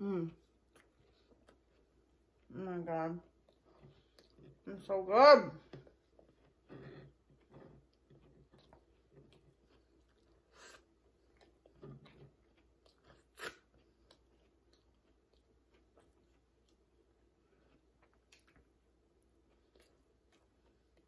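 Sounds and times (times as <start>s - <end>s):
faint chewing: 0.2s - 2.5s, 3.2s - 4.7s, 5.6s - 21.0s.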